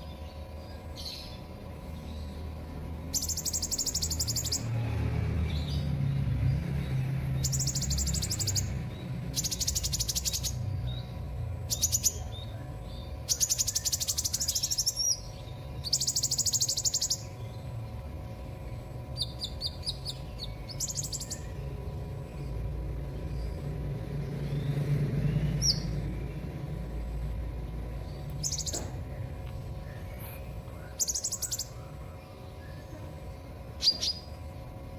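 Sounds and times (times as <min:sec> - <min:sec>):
bird singing high trills: 0:00.0 - 0:06.0, 0:06.9 - 0:26.5, 0:28.0 - 0:34.7
low steady hum: 0:00.0 - 0:34.9.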